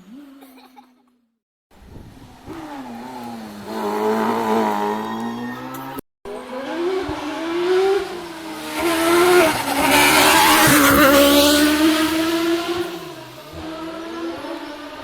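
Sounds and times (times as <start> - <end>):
rally car engine revving: 1.8 - 15.0
tyres sliding on road: 1.9 - 15.0.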